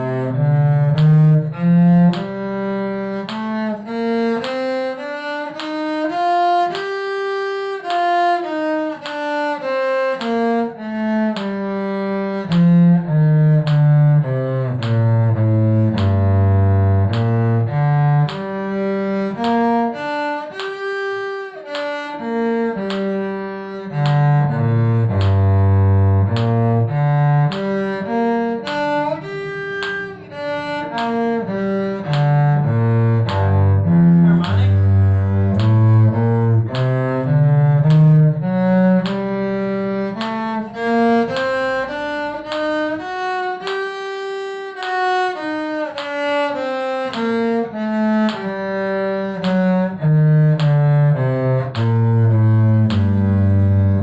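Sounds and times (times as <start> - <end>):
cello bowing a scale: 0.0 - 54.0.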